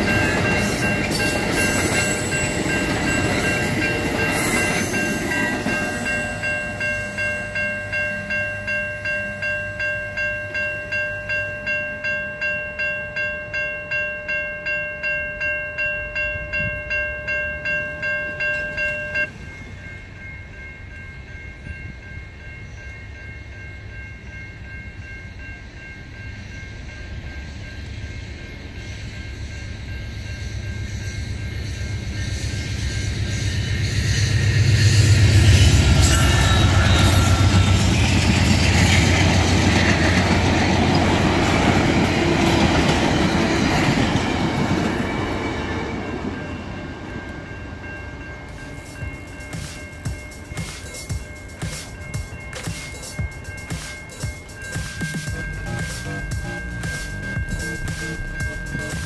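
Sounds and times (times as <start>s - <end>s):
railway crossing bell ringing: 0.0s - 59.0s
train rumbling past on rails: 0.0s - 59.0s.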